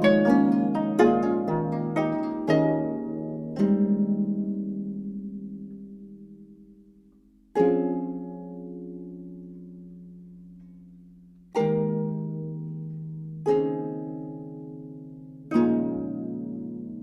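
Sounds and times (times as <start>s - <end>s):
plucked zither chords: 0.0s - 17.0s.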